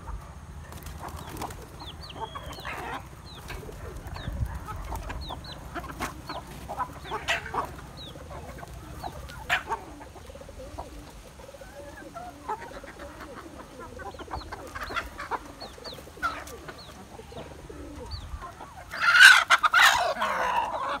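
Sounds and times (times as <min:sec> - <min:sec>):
chickens calling loudly: 0:00.0 - 0:21.0
chickens clucking: 0:00.0 - 0:21.0.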